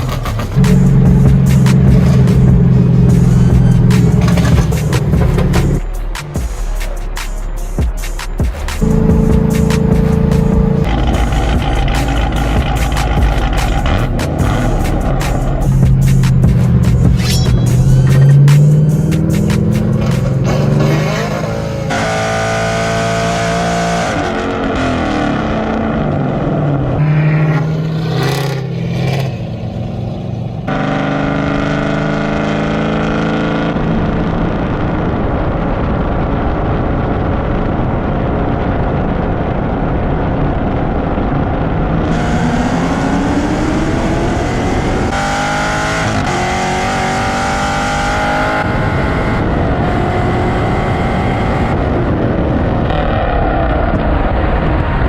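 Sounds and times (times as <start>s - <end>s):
cars accelerating at full throttle: 0.0s - 7.6s, 8.2s - 55.0s.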